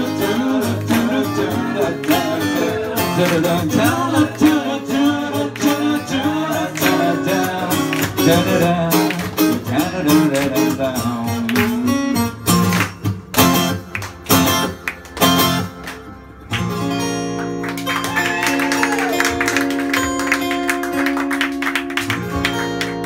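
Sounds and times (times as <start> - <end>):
acoustic guitars strumming: 0.0 - 23.0.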